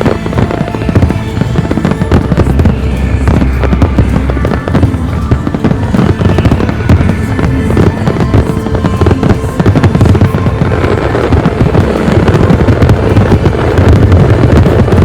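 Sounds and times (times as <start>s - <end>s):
fireworks shells bursting: 0.0s - 15.0s
music playing: 0.0s - 15.0s.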